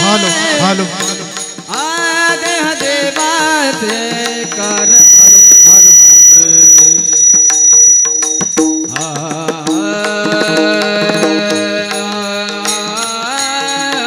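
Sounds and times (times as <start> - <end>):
tabla strokes: 0.0 - 14.0.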